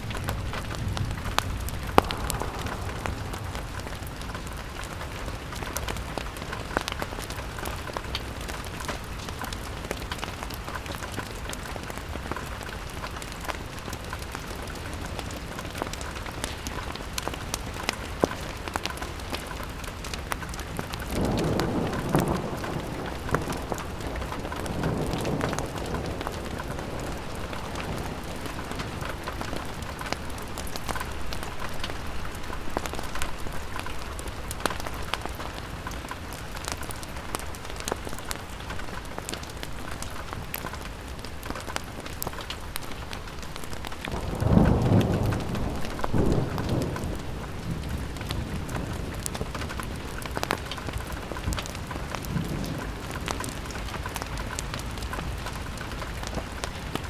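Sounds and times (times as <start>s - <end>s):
thunder rumbling: 0.0s - 18.6s, 20.1s - 57.0s
fire crackling: 0.0s - 57.0s
rain pattering on a window: 0.0s - 57.0s.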